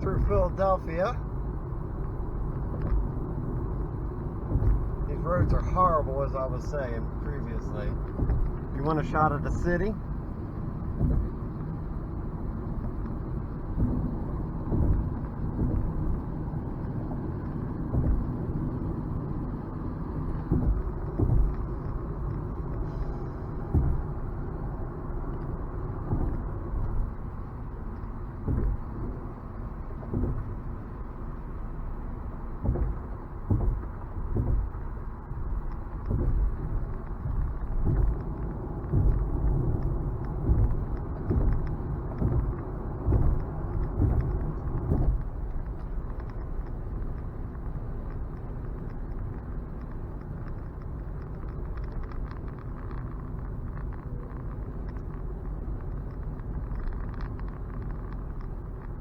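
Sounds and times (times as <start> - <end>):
heavy thuds over rough pavement: 0.0 - 59.0
road and tyre rumble: 0.0 - 59.0.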